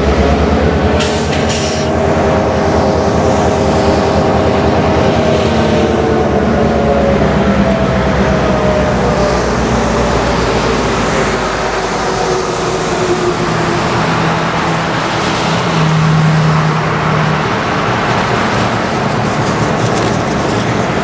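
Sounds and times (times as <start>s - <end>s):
diesel locomotives idling: 0.0s - 21.0s
highway traffic passing: 0.0s - 21.0s
vehicle humming: 0.0s - 21.0s.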